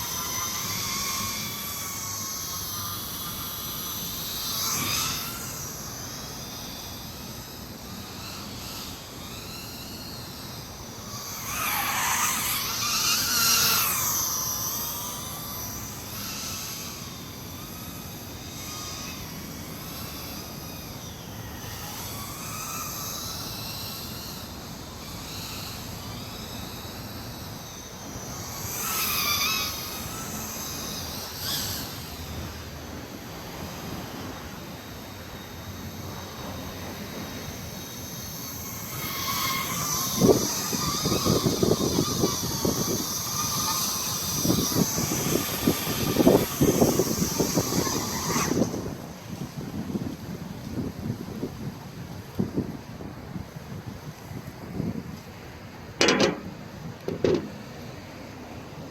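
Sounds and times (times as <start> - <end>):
quadcopter motors whining: 0.0 - 58.8.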